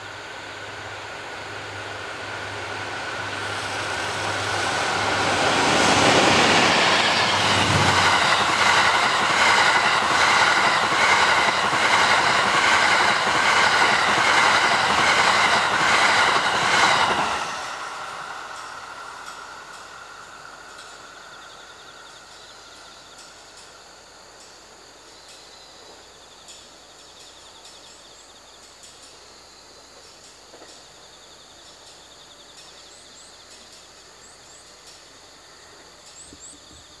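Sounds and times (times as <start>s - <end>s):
train rumble: 0.0s - 30.9s
insects chirring: 0.1s - 37.0s.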